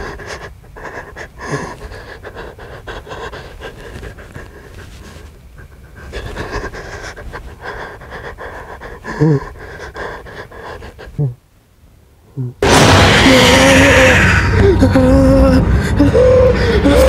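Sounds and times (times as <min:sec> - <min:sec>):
person breathing heavily: 0:00.0 - 0:11.4, 0:14.1 - 0:17.0.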